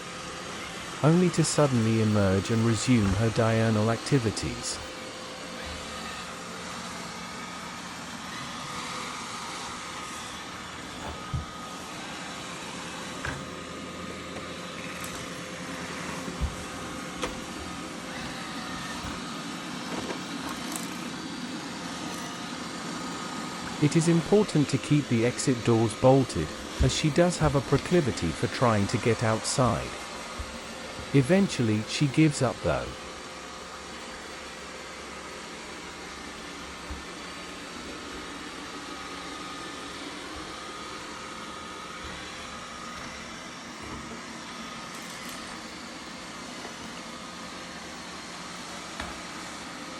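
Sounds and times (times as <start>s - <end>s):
robotic vacuum whirring: 0.0s - 49.9s.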